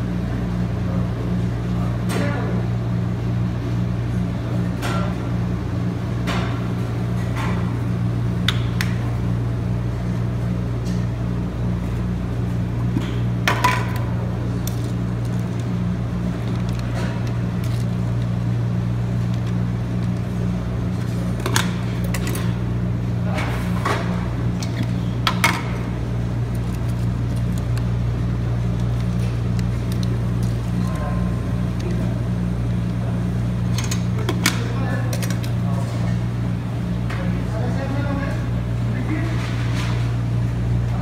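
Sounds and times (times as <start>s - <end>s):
low machine hum: 0.0s - 41.0s.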